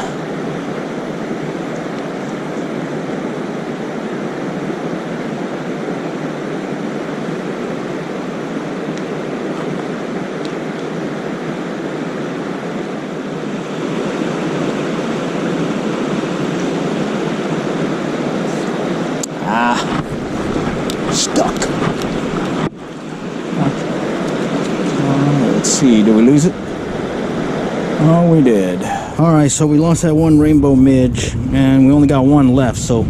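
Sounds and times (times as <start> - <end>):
flowing river water: 0.0 - 29.2.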